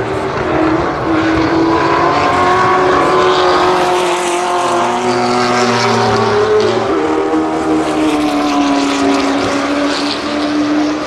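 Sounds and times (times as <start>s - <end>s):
race car engine passing: 0.0s - 11.0s.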